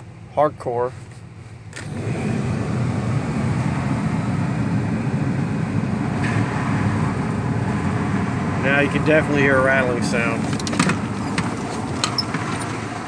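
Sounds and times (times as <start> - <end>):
car engine idling: 0.0 - 13.0
loud steady engine rattling: 0.0 - 13.0.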